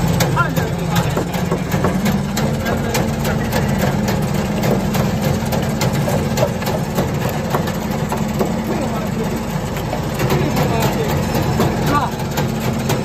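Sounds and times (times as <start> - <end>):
machine low hum: 0.0 - 13.0.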